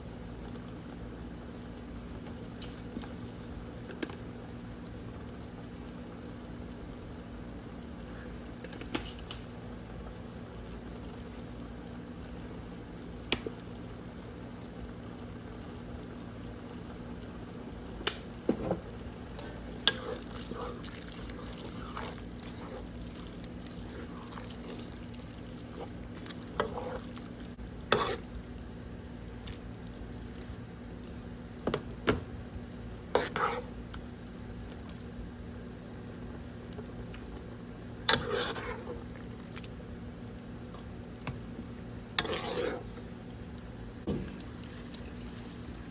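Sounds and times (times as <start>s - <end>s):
steady background hum: 0.0s - 45.9s.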